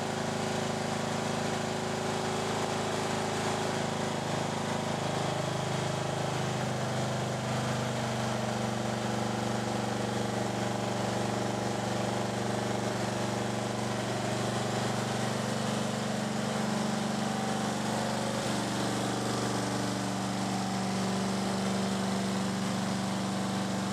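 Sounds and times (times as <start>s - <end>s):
riding mower engine running: 0.0s - 23.9s.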